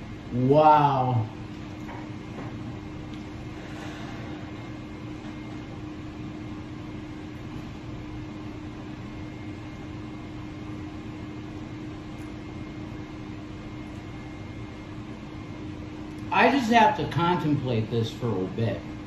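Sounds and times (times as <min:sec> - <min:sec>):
mechanical room hum: 0:00.0 - 0:19.0.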